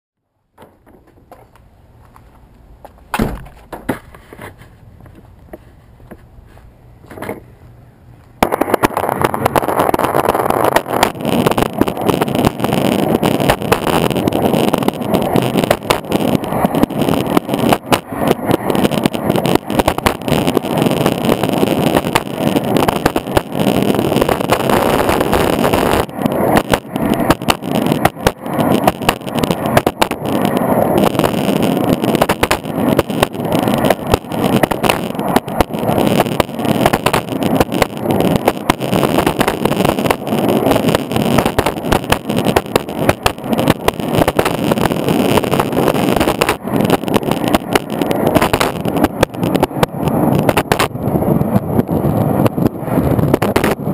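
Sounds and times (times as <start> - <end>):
longboard wheels rumbling on concrete: 0.5 - 53.9
wheels clicking over cracks: 8.3 - 53.9.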